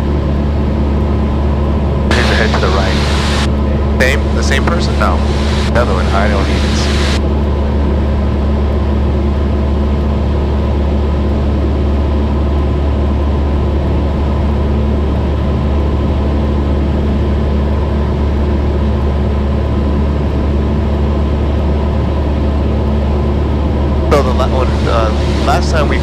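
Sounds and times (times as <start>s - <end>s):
airplane engine and propeller droning: 0.0s - 26.0s.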